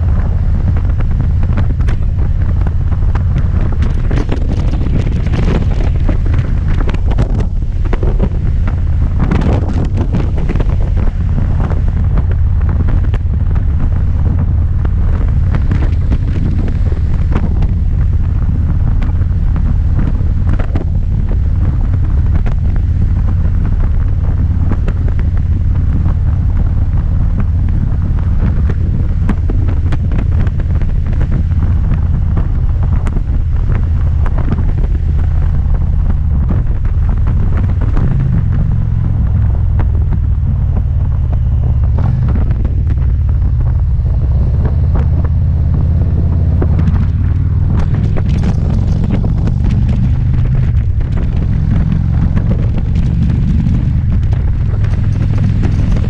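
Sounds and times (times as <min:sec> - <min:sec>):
motorcycle engine rumbling: 0:00.0 - 0:56.0
wind buffeting microphone: 0:00.0 - 0:56.0.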